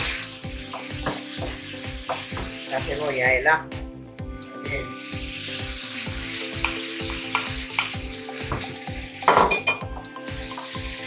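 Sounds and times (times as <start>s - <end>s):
food sizzling in oil: 0.0s - 3.5s, 4.2s - 11.0s.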